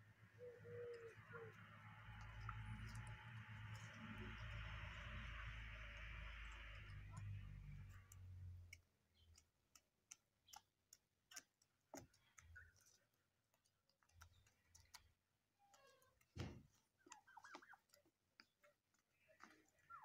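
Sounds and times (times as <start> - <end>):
beaks pecking grass: 0.0 - 20.0.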